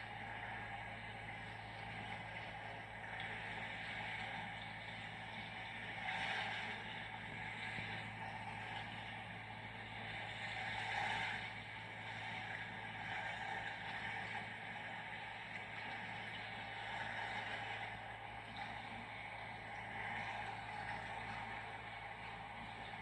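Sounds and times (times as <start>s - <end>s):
ship engine hum: 0.0s - 23.0s
water wash: 0.0s - 23.0s.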